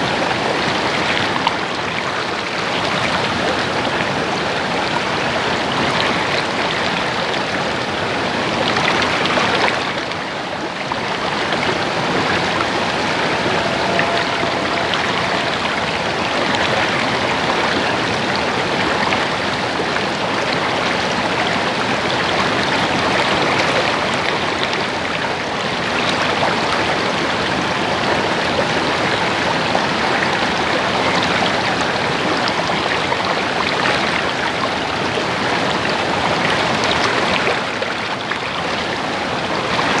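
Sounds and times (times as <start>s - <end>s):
stream babbling over rocks: 0.0s - 40.0s.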